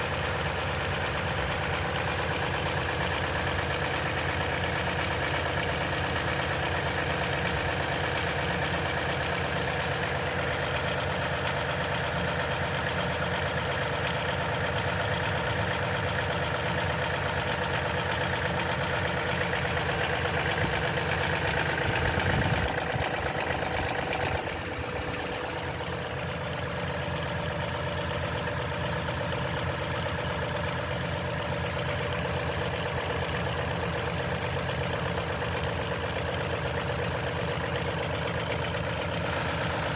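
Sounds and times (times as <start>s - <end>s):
engine idling with rattle: 0.0s - 39.9s.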